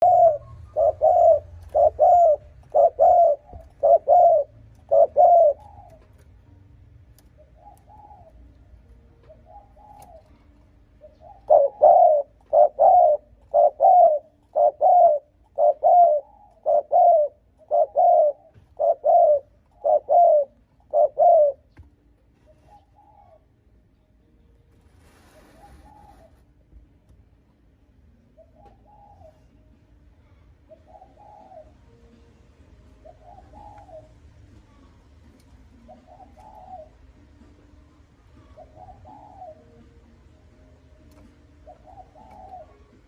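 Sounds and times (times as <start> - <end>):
dove cooing: 0.0 - 21.8, 22.4 - 23.6, 25.1 - 26.6, 28.1 - 32.2, 32.8 - 43.0.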